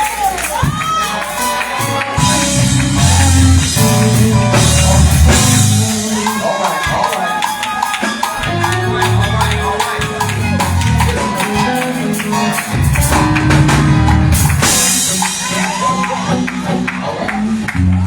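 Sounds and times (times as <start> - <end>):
tambourine and drum beat: 0.0 - 16.7
church band music: 0.0 - 18.0
organ-like chords: 0.7 - 7.2, 8.0 - 18.0
bass line: 1.8 - 7.0, 8.4 - 18.0.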